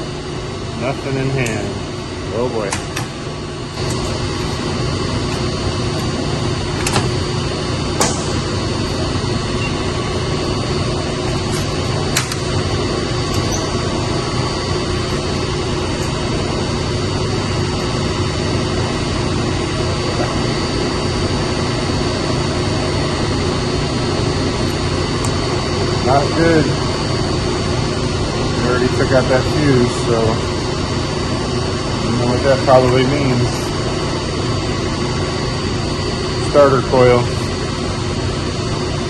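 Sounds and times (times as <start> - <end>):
machinery droning: 0.0 - 39.0.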